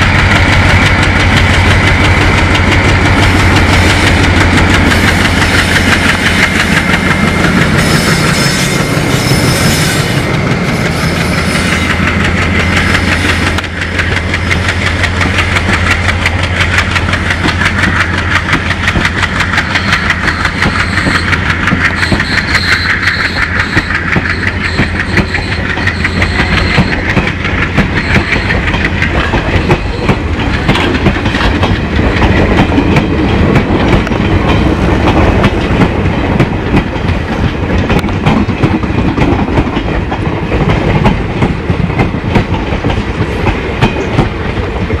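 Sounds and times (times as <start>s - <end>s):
diesel locomotive engine throb: 0.0s - 45.0s
train wheels clattering over joints: 0.0s - 45.0s.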